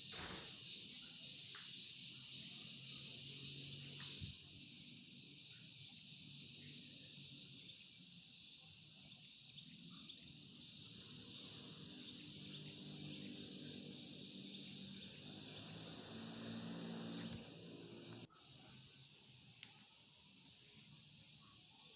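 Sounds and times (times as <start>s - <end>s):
insect chorus: 0.0s - 21.9s.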